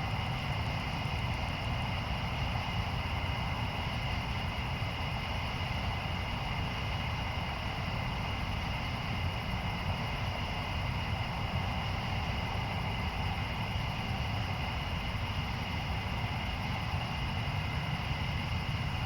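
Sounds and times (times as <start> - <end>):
constant low rumble: 0.0 - 19.0.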